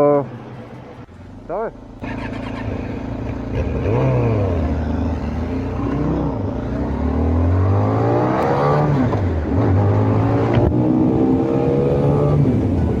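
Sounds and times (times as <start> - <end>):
motorcycle engine accelerating: 1.2 - 13.0.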